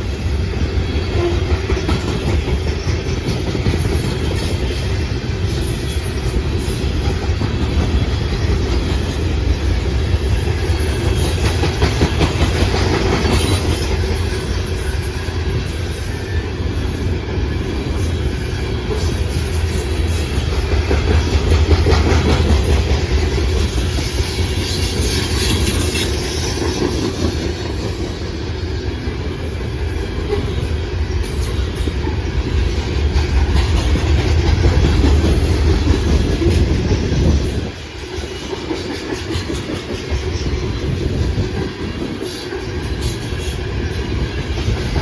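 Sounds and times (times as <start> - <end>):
train cars rumbling past: 0.0 - 45.0
wheels clicking over rail joints: 0.6 - 16.1, 17.8 - 28.4, 29.2 - 45.0.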